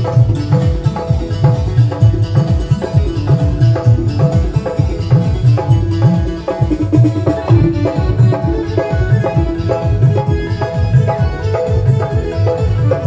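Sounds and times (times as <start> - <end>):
held melody notes: 0.0 - 13.0
tabla bass strokes: 0.0 - 13.0.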